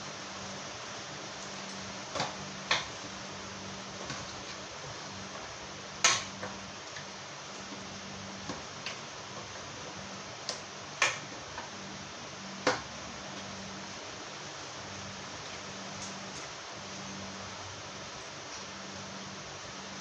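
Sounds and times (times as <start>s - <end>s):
low hum and hiss: 0.0s - 20.0s.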